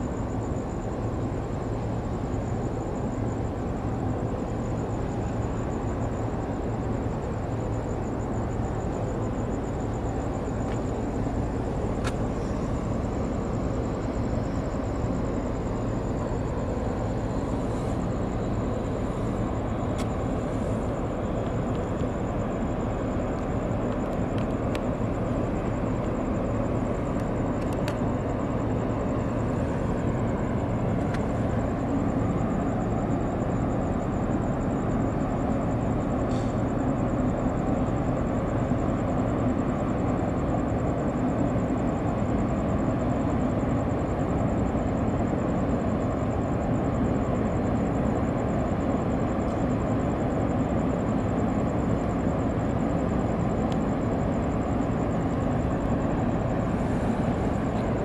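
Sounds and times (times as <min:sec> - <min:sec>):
low rumble of ship engines: 0:00.0 - 0:58.0.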